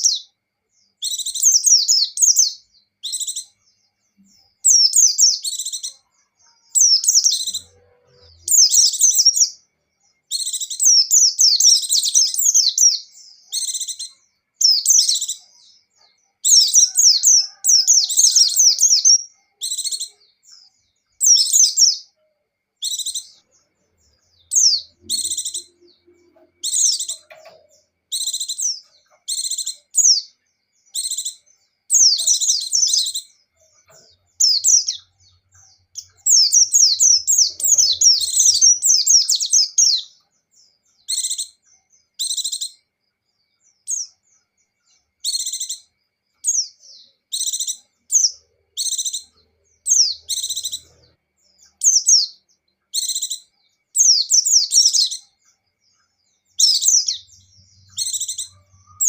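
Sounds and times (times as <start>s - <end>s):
bird twittering song: 0.0s - 59.0s.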